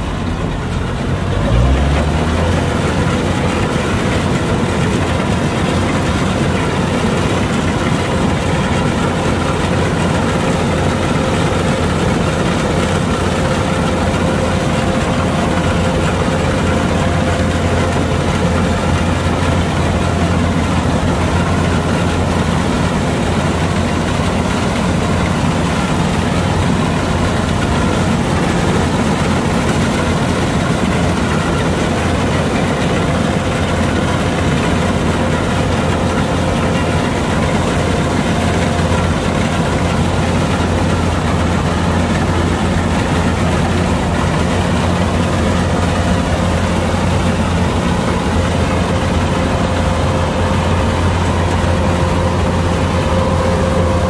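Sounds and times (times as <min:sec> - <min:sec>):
combine harvester engine droning: 0:00.0 - 0:54.0.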